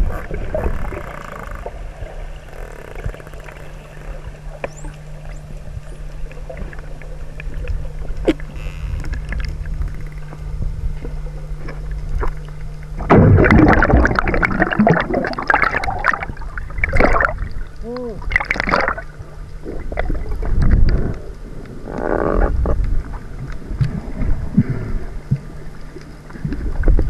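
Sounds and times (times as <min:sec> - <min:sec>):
bubbles and splashing: 0:00.0 - 0:27.0
underwater boat engine hum: 0:00.0 - 0:27.0.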